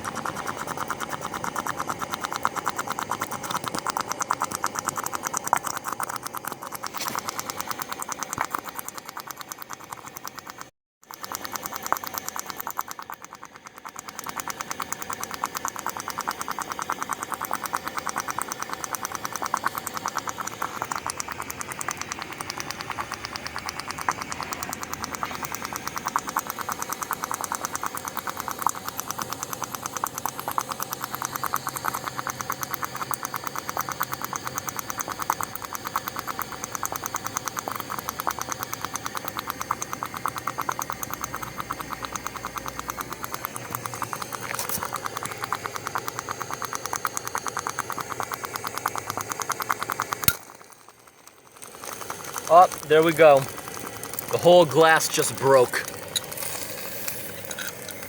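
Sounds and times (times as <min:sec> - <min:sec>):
glue boiling with tiny pops: 0:00.0 - 0:58.0.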